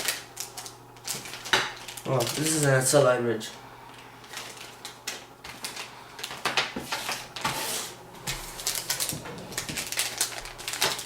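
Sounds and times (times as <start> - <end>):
plastic packaging crinkling: 0.0 - 3.1, 3.9 - 7.6, 8.2 - 11.0.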